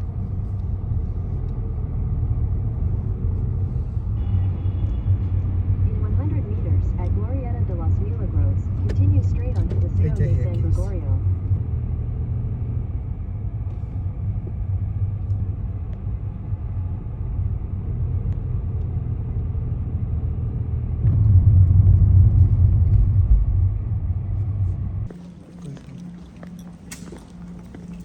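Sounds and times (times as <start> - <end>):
motor vehicle rumble: 0.0 - 28.0.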